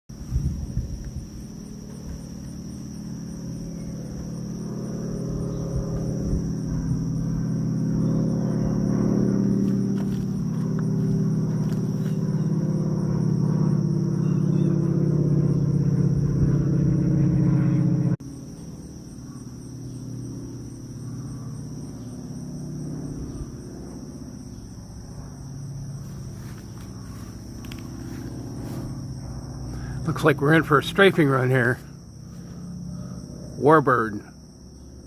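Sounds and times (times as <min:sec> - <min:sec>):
insect buzz: 0:00.1 - 0:35.0
piston aircraft engine droning: 0:00.1 - 0:35.0.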